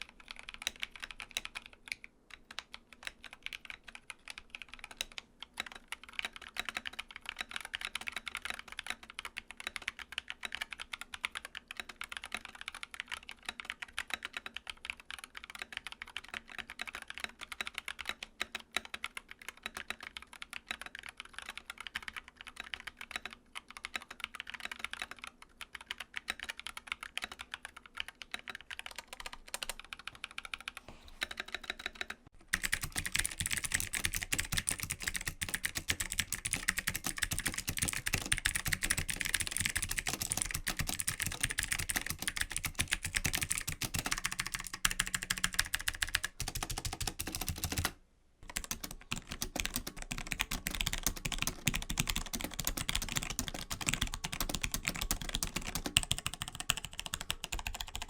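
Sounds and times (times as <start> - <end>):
mechanical keyboard typing: 0.0 - 58.0.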